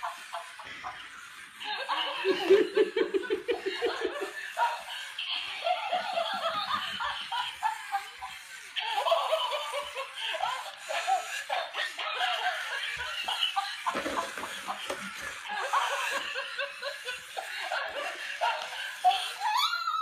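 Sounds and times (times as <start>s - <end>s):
toy electronic laugh: 0.0s - 20.0s.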